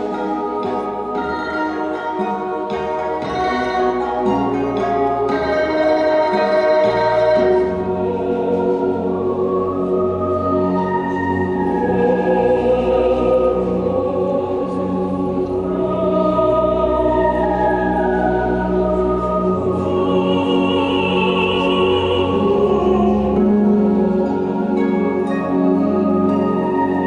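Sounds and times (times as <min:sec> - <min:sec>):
dance music with choir-like notes: 0:00.0 - 0:27.0.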